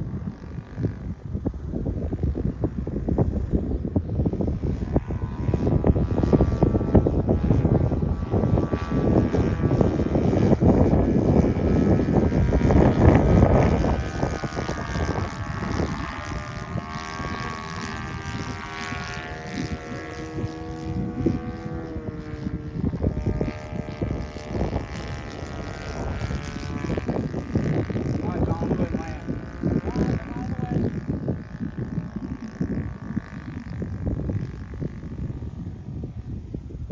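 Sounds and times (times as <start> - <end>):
model airplane engine drone: 0.0 - 36.9
wind on microphone: 0.0 - 36.9.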